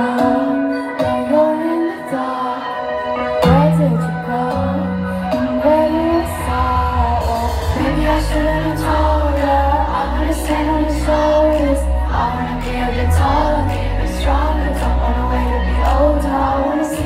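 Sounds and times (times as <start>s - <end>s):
concert crowd: 0.0s - 17.0s
live pop music: 0.0s - 17.0s
woman singing into microphone: 0.0s - 17.0s.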